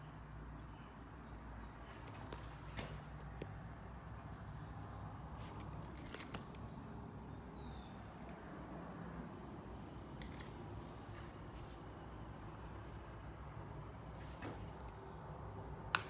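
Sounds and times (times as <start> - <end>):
faint low background hum: 0.0 - 16.0.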